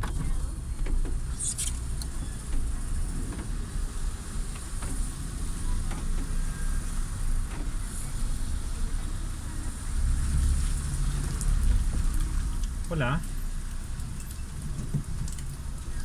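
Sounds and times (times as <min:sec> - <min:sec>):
car interior rumble: 0:00.0 - 0:16.0.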